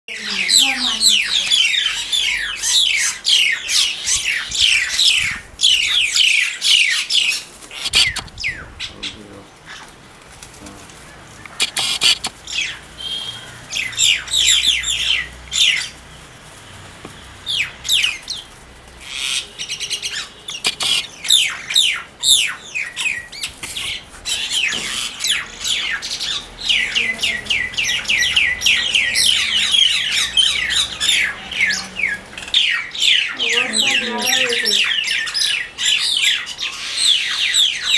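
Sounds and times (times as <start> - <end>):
birds calling: 0.1 - 37.9.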